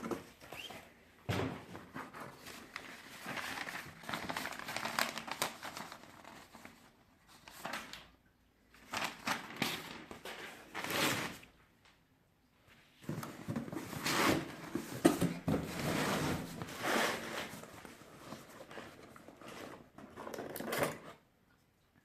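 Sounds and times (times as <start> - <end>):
packaging rustling and scraping: 0.0 - 1.0, 1.6 - 8.0, 8.9 - 11.5, 13.0 - 21.2.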